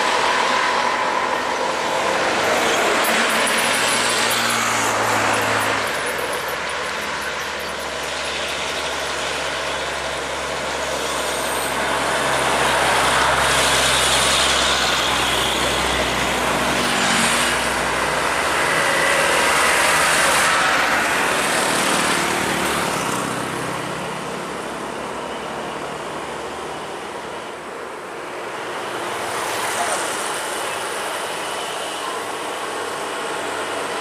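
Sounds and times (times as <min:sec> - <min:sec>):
heavy road traffic: 0:00.0 - 0:34.0
trucks and motorcycles passing: 0:00.0 - 0:34.0.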